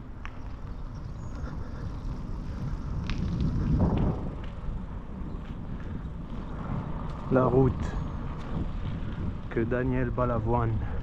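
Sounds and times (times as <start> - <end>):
wind and rolling rumble: 0.0 - 11.0.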